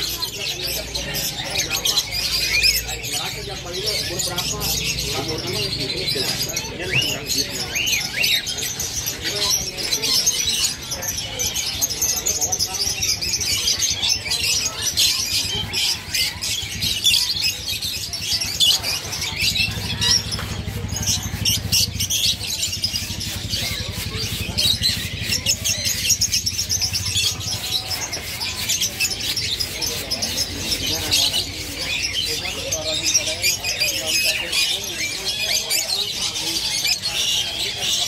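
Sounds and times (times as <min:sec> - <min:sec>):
birds chirping and twittering: 0:00.0 - 0:38.0.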